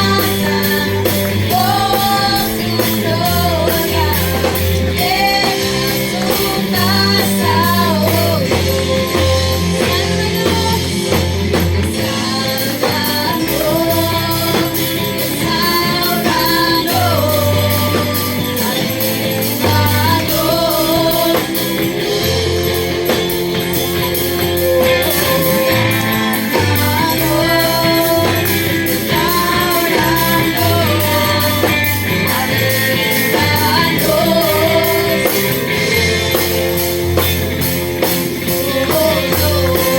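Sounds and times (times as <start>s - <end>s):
worship song with band: 0.0s - 39.9s.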